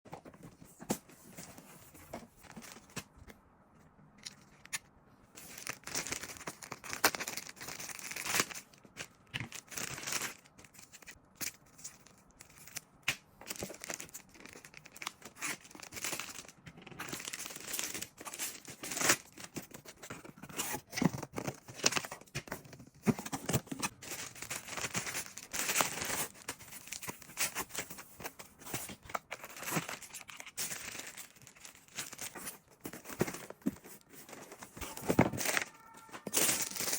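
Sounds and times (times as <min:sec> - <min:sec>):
wrapping tearing and crinkling: 0:05.4 - 0:36.9.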